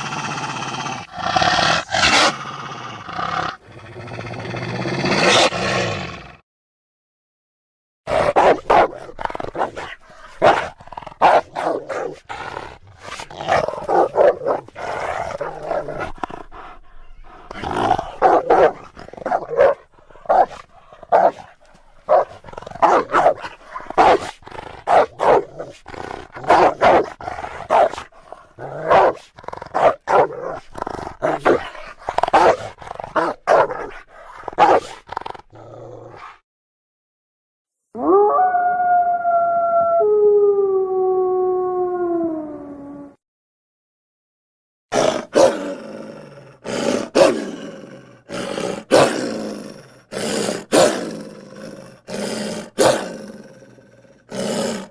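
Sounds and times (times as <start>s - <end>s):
dog barking and growling: 0.0s - 6.4s, 8.1s - 36.4s, 44.9s - 54.9s.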